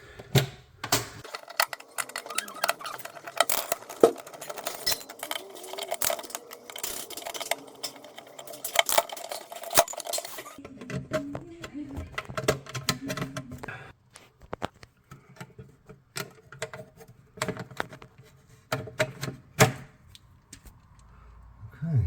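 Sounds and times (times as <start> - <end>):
hand tools clicking and scraping: 0.0 - 19.8.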